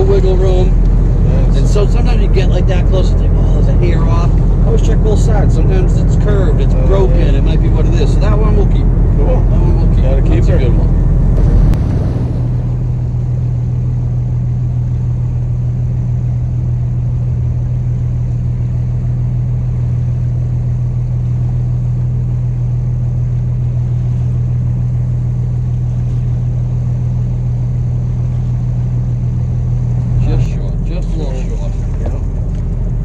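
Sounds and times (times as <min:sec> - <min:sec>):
boat engine low drone: 0:00.0 - 0:33.0.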